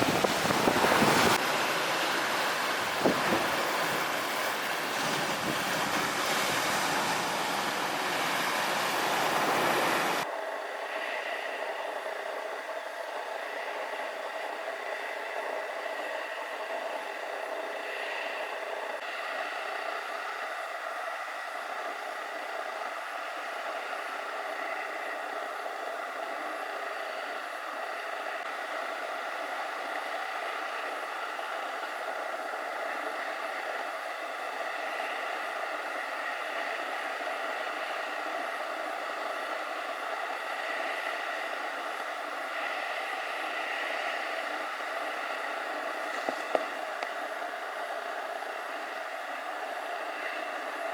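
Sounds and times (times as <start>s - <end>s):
steady rushing noise: 0.0s - 50.9s
surf and wind noise: 0.0s - 50.9s.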